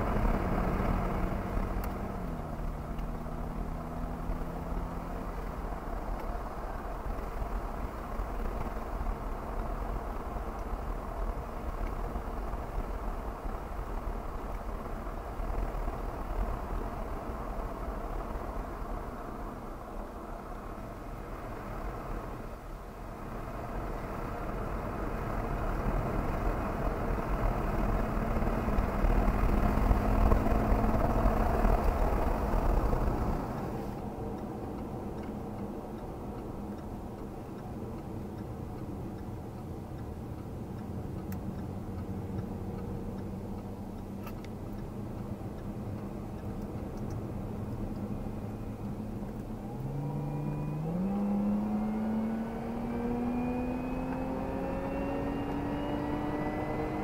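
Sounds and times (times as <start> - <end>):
car engine pulling hard: 0.0 - 57.0
road noise: 0.0 - 57.0.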